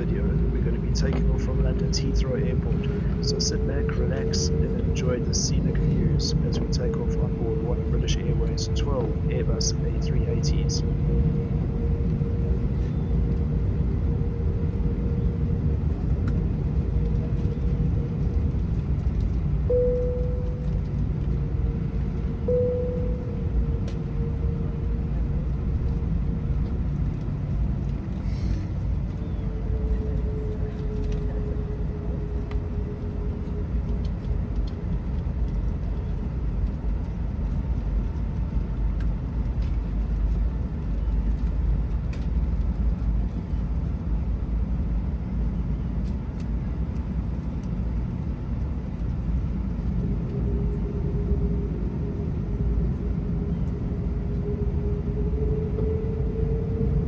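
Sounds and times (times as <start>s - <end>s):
airplane cabin engine rumble: 0.0s - 57.0s
faint engine whine: 0.0s - 57.0s.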